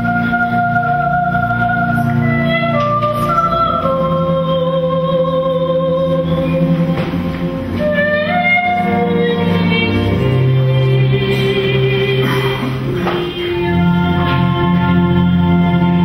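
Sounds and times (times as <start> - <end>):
slow church singing: 0.0 - 16.0.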